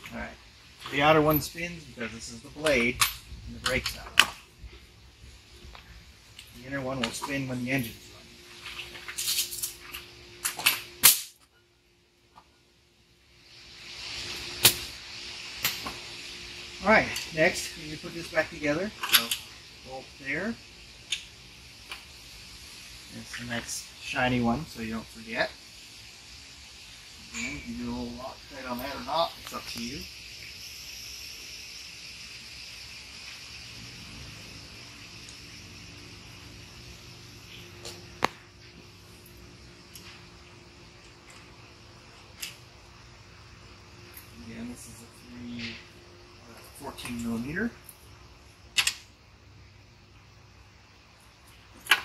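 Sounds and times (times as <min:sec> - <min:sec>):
faint steady hiss: 0:00.0 - 0:52.0.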